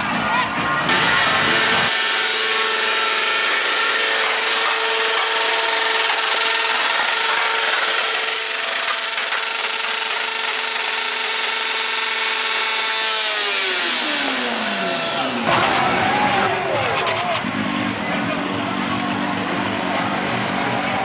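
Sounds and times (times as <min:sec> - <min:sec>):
crowd voices: 0:00.0 - 0:11.8, 0:12.9 - 0:21.0
motorcycle engine revving: 0:00.0 - 0:21.0.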